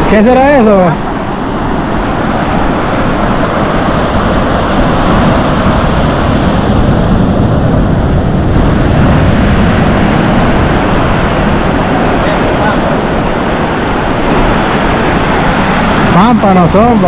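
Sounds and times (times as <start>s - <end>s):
ocean surf breaking: 0.0s - 17.0s
wind rumbling on microphone: 0.0s - 17.0s.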